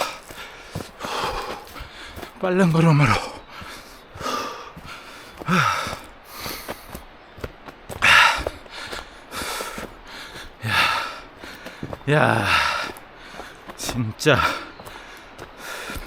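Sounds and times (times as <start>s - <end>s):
person breathing hard: 0.0s - 2.4s, 3.0s - 7.0s, 8.0s - 13.8s, 14.4s - 16.0s
light footsteps: 0.0s - 16.0s.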